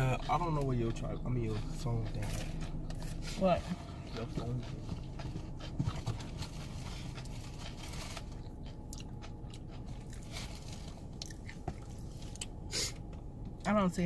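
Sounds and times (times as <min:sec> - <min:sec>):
person chewing and crunching food: 0:00.0 - 0:13.2
steady low hum: 0:00.0 - 0:14.0.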